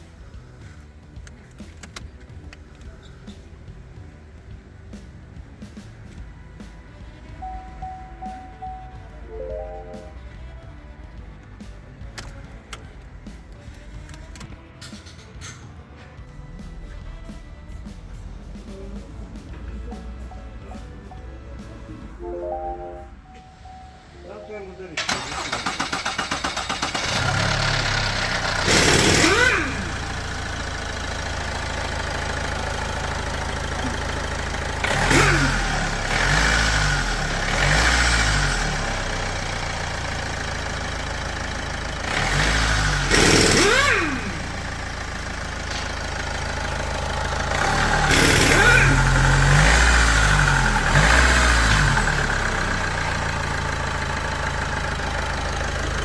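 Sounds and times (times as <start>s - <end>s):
diesel engine idling and revving: 0.0s - 22.2s, 25.0s - 56.0s.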